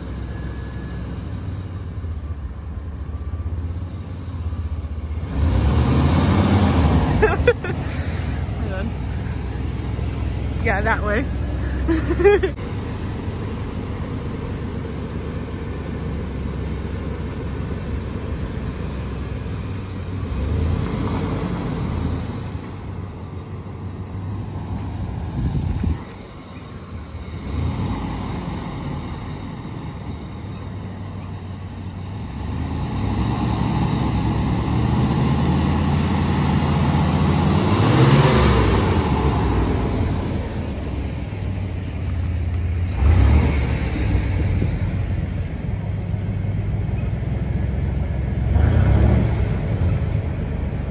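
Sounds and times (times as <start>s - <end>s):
pickup truck engine revving: 3.2s - 50.9s.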